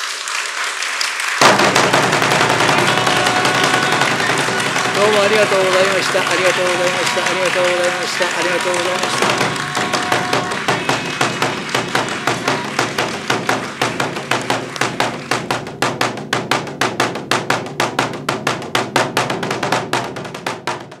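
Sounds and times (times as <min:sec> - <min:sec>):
taiko drum beats: 0:01.4 - 0:21.0.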